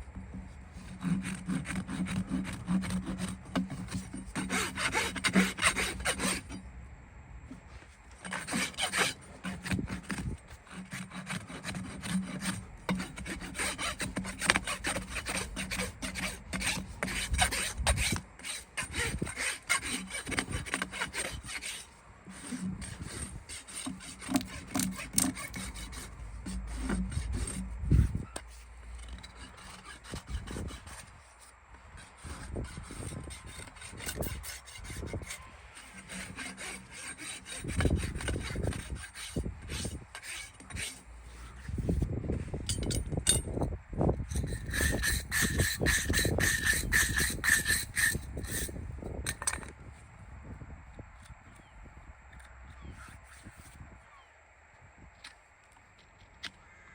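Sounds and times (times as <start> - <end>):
hand tools scraping hoof: 0.0 - 6.7, 7.5 - 50.0, 52.3 - 53.8.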